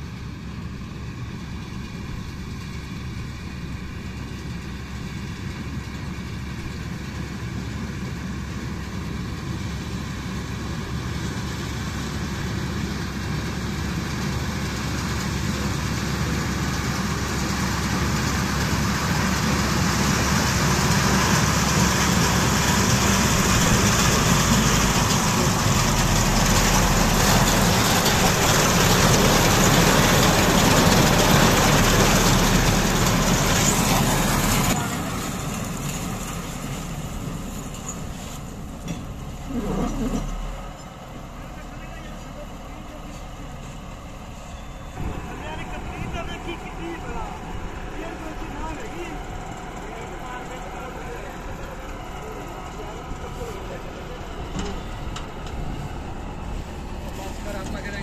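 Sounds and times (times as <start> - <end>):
harvester engine and machinery din: 0.0 - 58.0.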